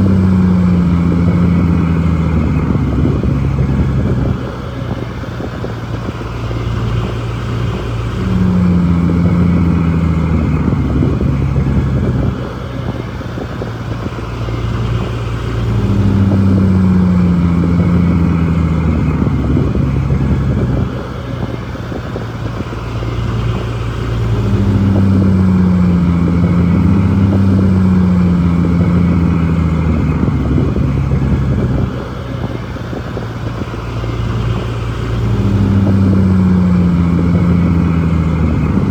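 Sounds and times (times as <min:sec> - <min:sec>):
bulldozer diesel engine working: 0:00.0 - 0:38.9.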